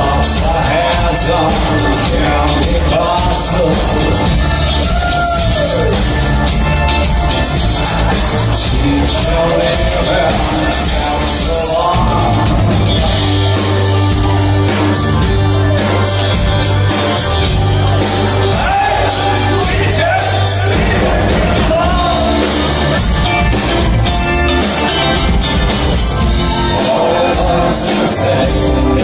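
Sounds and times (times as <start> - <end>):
bass line: 0.0 - 29.0
drum beat: 0.0 - 29.0
person singing: 0.0 - 29.0.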